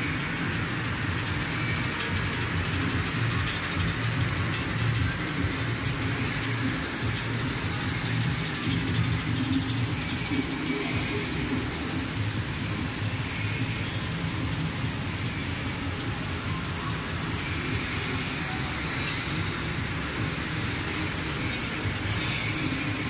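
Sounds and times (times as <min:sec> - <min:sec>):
slitting machine humming with hiss: 0:00.0 - 0:23.0.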